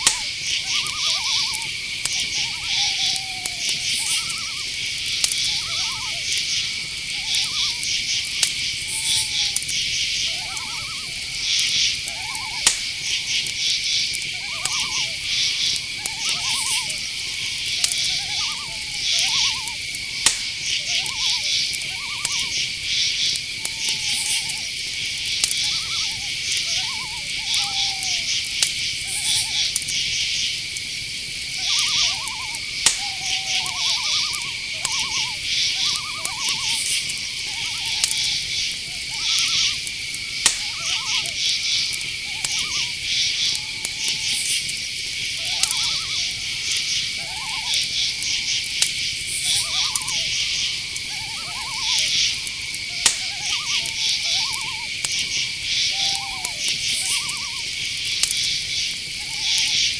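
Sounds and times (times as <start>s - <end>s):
sharp clicks: 0.0s - 55.9s
crickets trilling: 0.0s - 59.9s
insects chirping in pulses: 0.0s - 59.9s
owls calling: 0.0s - 59.9s.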